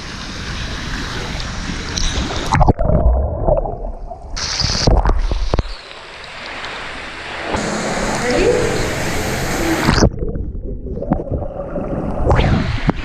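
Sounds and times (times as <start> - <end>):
water gurgling and sloshing: 0.0 - 13.0
water splashing: 0.6 - 13.0.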